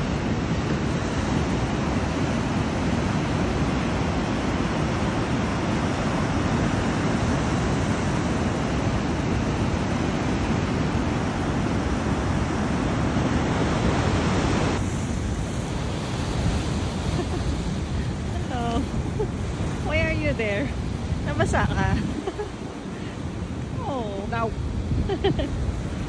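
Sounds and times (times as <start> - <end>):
ocean surf breaking: 0.0 - 26.0
wind on microphone: 0.0 - 26.0.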